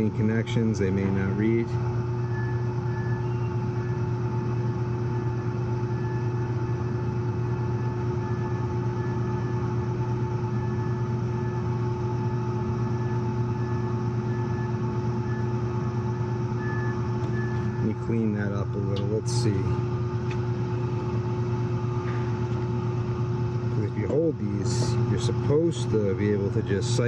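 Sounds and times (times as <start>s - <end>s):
hvac fans humming: 0.0s - 27.0s.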